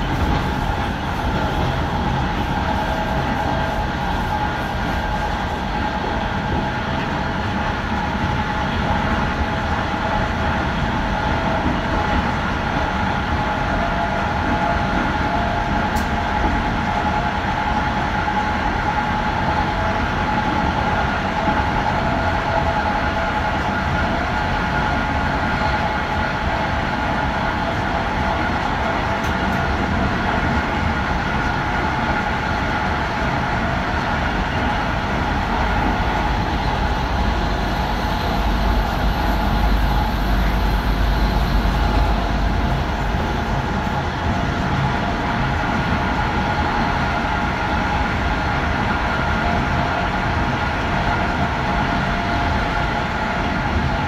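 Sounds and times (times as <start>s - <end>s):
steady multi-tone hum: 0.0s - 54.0s
train wheels rumbling on rails: 0.0s - 54.0s.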